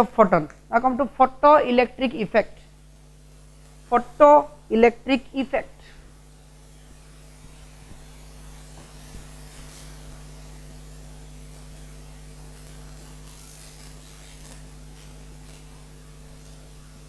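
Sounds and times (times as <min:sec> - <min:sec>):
electrical mains hum: 0:00.0 - 0:17.0
faint hiss: 0:00.0 - 0:17.0.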